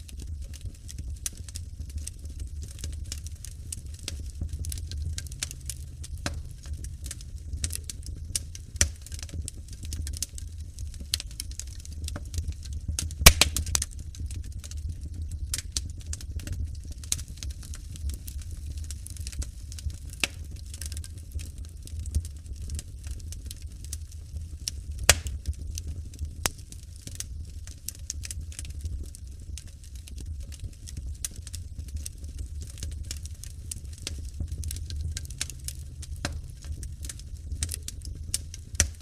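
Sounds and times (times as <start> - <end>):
low rumble of fire: 0.0 - 39.0
wood fire crackling and popping: 0.0 - 39.0.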